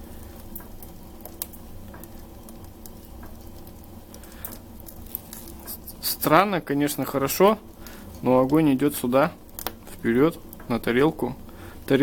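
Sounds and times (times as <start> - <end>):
crackling and sizzling: 0.0 - 12.0
stove flame rumbling: 0.0 - 12.0.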